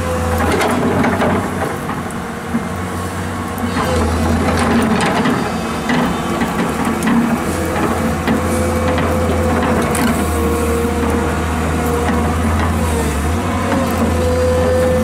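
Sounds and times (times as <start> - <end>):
excavator diesel engine: 0.0 - 15.0.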